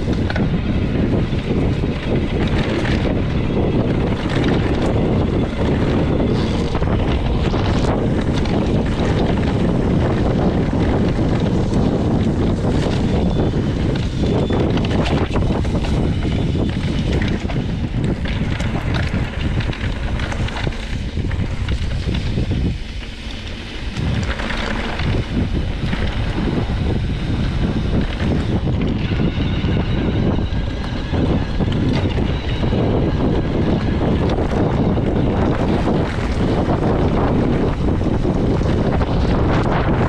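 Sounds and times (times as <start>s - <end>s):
bike knocking and clicking: 0.0s - 40.0s
wind buffeting microphone: 0.0s - 40.0s.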